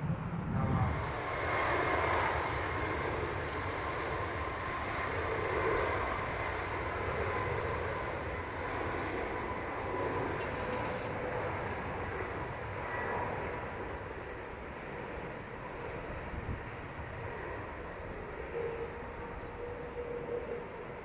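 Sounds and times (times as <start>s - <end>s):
faint engine whine: 0.0s - 21.0s
jet engine noise: 0.0s - 21.0s.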